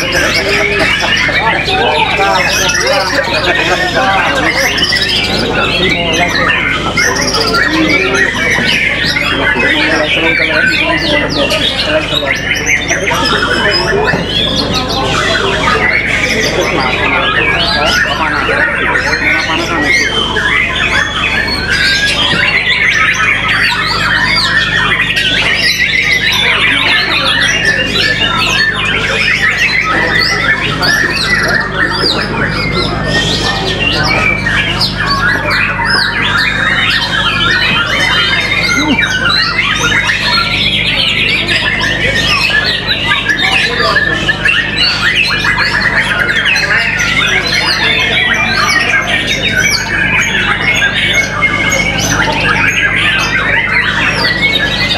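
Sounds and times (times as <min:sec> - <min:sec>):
birds singing and squawking: 0:00.0 - 0:54.9.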